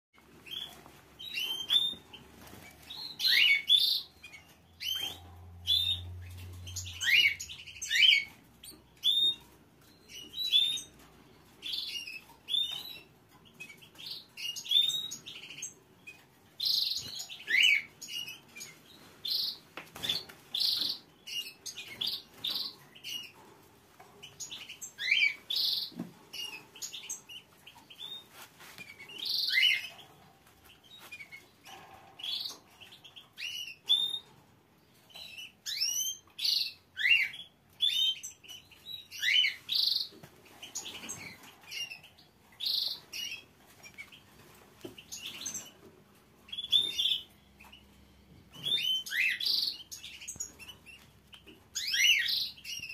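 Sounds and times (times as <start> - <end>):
canaries chirping: 0.2 - 52.9.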